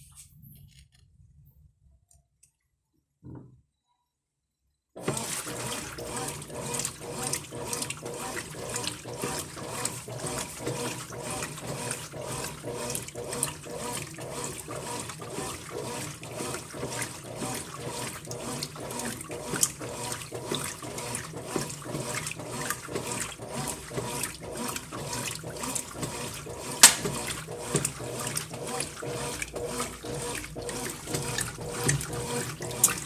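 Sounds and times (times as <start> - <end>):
washing machine sloshing water: 5.0 - 33.0.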